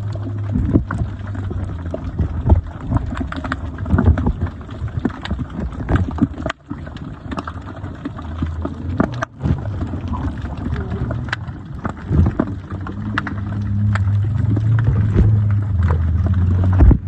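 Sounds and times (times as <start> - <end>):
underwater clicks and crackles: 0.0 - 17.0
underwater low hum: 0.0 - 17.0.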